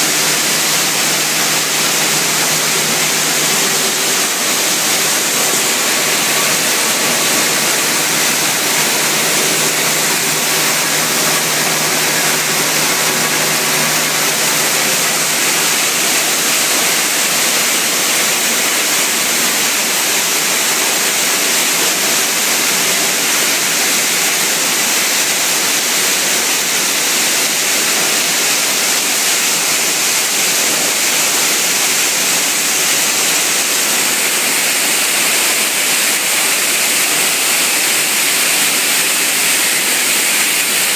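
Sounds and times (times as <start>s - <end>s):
washing machine running: 0.0s - 40.9s.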